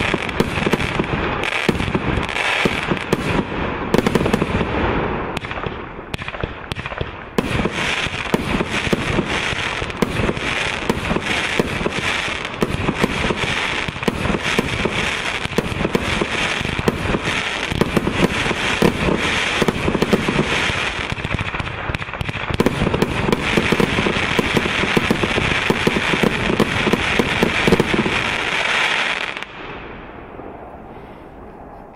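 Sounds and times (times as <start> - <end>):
fireworks barrage with crackling bursts: 0.0 - 31.9.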